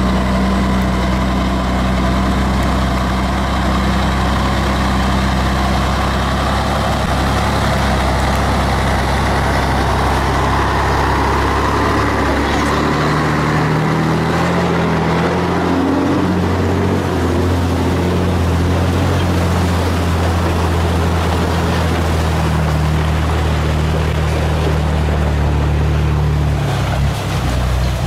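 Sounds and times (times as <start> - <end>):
truck diesel engine under load: 0.0 - 28.0.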